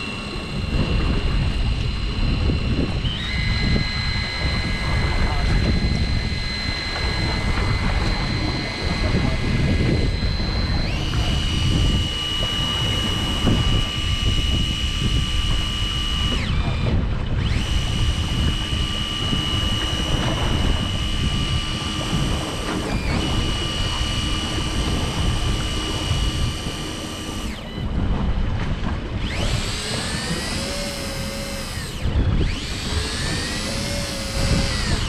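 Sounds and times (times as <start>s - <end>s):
fishing reel motor whining: 0.0s - 28.2s, 28.8s - 35.0s
boat engine rumble: 0.0s - 35.0s
wind: 0.0s - 35.0s.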